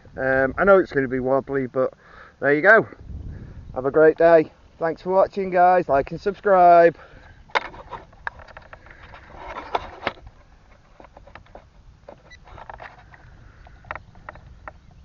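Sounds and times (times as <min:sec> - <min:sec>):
rustle: 0:00.0 - 0:15.0
wind rumbling on microphone: 0:02.7 - 0:15.0.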